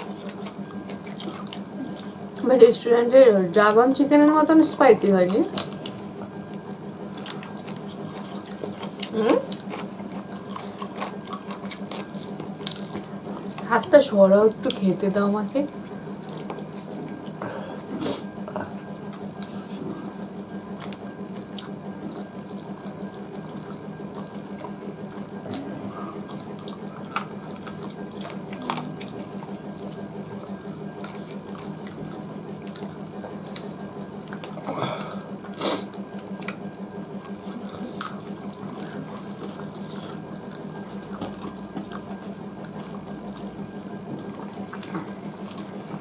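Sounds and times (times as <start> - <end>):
steady low hum: 0.0 - 46.0
wet squelching of hand eating: 5.3 - 13.7, 15.7 - 46.0.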